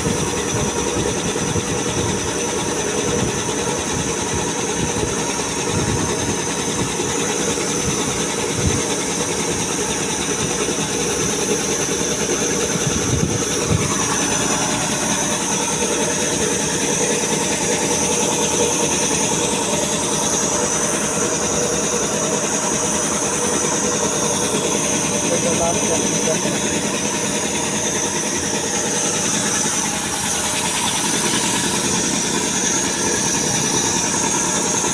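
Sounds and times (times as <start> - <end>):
piston air compressor running: 0.0 - 34.9.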